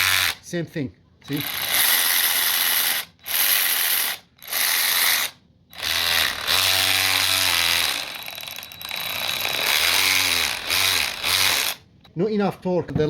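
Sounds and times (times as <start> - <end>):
cordless ratchet wrench running: 1.3 - 11.8.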